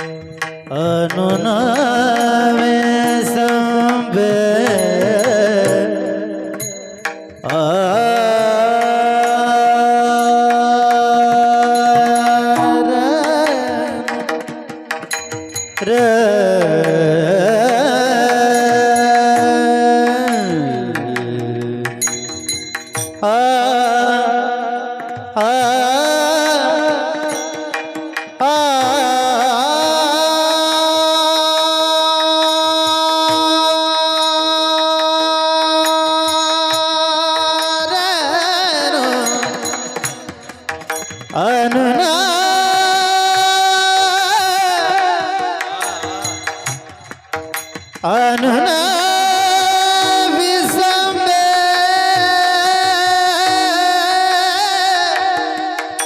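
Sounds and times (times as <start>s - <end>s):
musical accompaniment: 0.0s - 56.0s.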